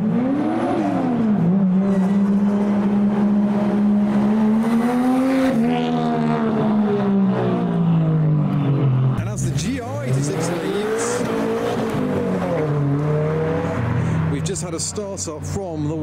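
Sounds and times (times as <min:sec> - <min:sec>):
car engine revving and accelerating: 0:00.0 - 0:15.5.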